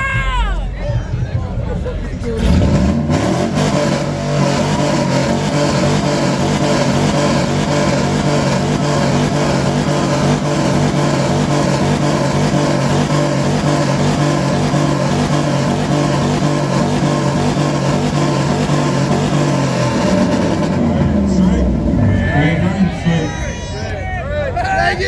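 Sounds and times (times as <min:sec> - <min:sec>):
car engine at high revs: 0:02.4 - 0:23.5.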